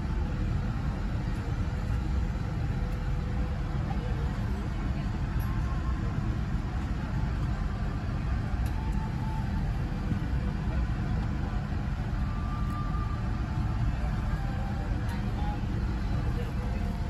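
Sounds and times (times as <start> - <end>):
airplane engine noise: 0.0 - 17.0
cabin air conditioning: 0.0 - 17.0.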